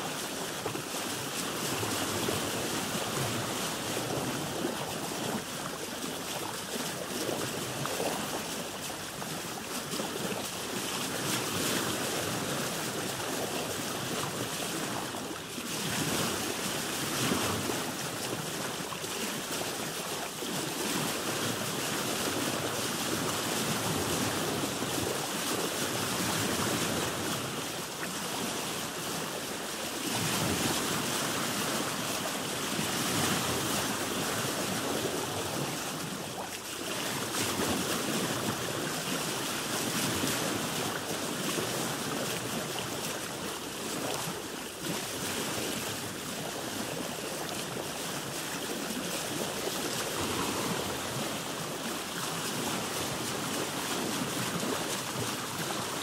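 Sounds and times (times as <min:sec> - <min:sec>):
water washing around a boat: 0:00.0 - 0:56.0.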